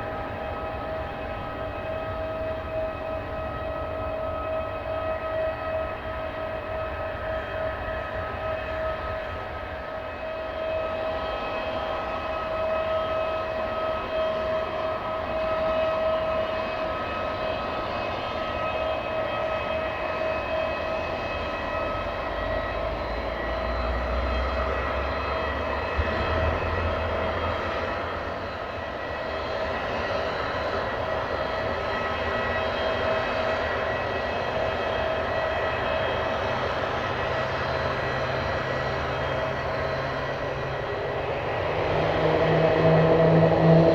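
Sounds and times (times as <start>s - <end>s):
jet engines whining: 0.0s - 43.9s.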